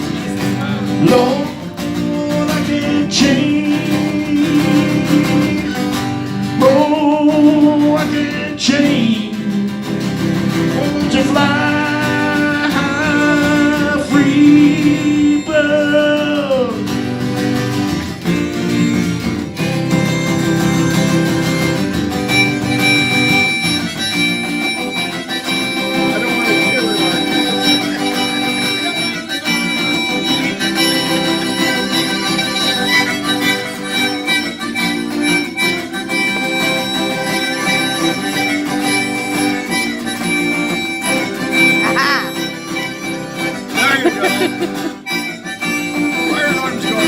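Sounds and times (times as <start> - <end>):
acoustic guitar strumming: 0.0 - 47.0
harmonica playing: 0.0 - 47.0.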